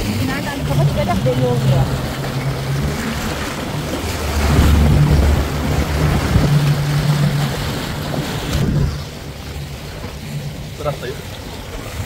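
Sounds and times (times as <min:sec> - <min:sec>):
wind on microphone: 0:00.0 - 0:10.1
jet ski engine running: 0:00.0 - 0:12.0
water rushing: 0:00.0 - 0:12.0.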